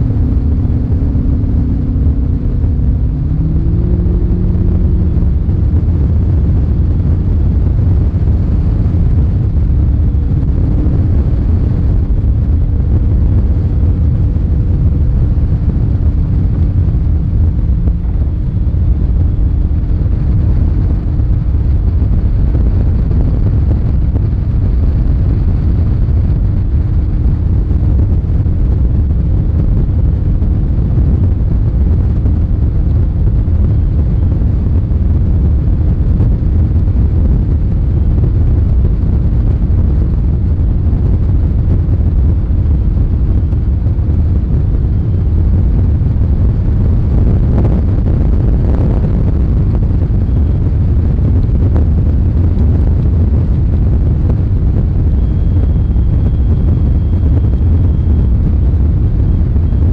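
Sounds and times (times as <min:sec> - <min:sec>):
faint steady hum: 0:00.0 - 0:59.9
outboard engine drone: 0:00.0 - 0:59.9
wind rumble on microphone: 0:00.0 - 0:59.9.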